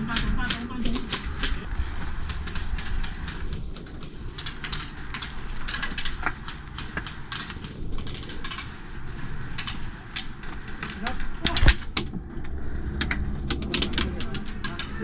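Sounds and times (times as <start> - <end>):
low rumble: 0.0 - 15.0
sharp clicks and snaps: 0.0 - 15.0.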